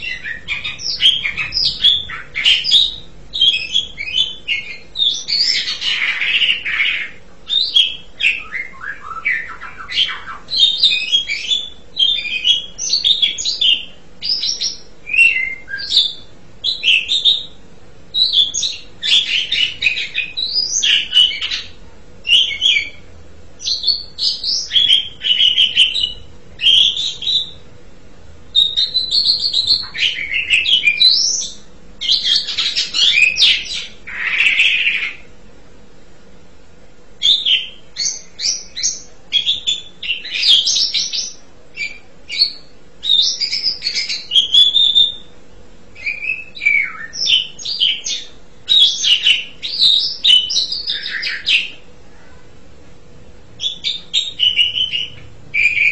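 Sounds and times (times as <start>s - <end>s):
starling singing: 0.0s - 27.7s, 28.5s - 35.3s, 37.2s - 51.9s, 53.6s - 55.9s.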